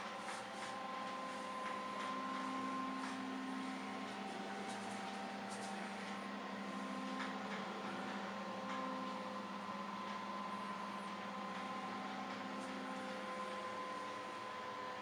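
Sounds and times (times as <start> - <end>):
electrical appliance drone: 0.0 - 15.0.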